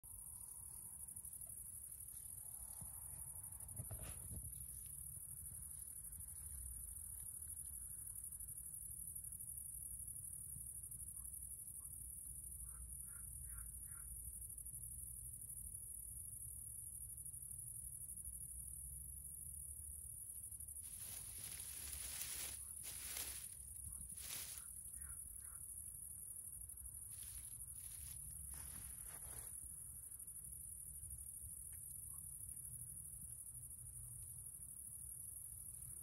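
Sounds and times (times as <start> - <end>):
crickets chirring: 0.1 - 36.0.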